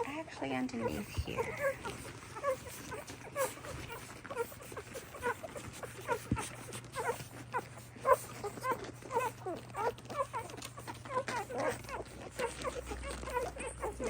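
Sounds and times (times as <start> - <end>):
puppies squeaking and whimpering: 0.0 - 14.0.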